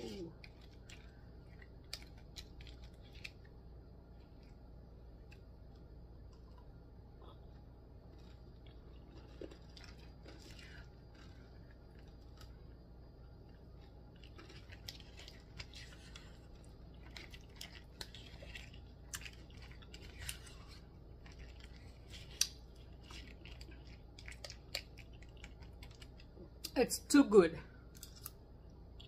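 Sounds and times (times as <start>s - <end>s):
chewing and mouth noises: 0.0s - 26.7s.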